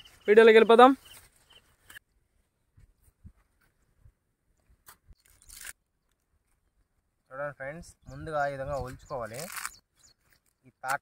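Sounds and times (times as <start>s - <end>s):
dry husks rustling: 0.0s - 7.2s, 8.7s - 10.9s.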